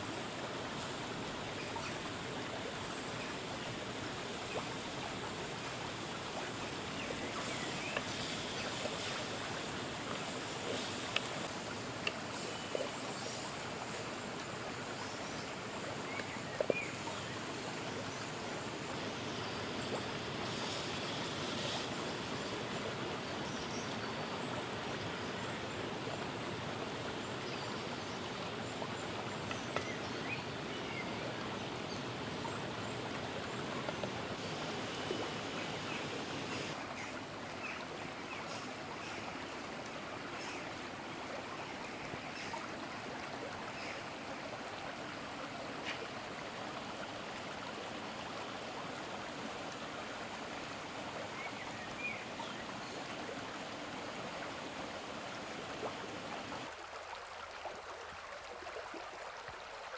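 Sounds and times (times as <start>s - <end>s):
river running over stones: 0.0s - 59.9s.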